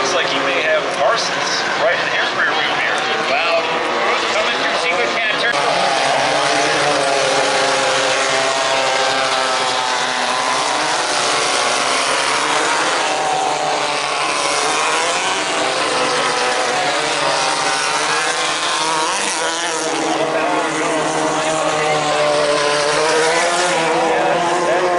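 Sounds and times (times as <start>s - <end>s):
racing buggy engines revving: 0.0s - 24.9s.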